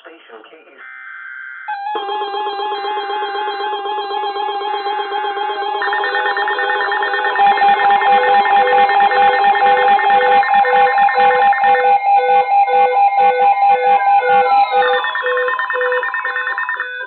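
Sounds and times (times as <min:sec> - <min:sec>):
repeating electronic beeps: 0:00.9 - 0:17.0
fast rhythmic pulsing tone: 0:01.7 - 0:17.0
steady high alert tone: 0:01.7 - 0:17.0.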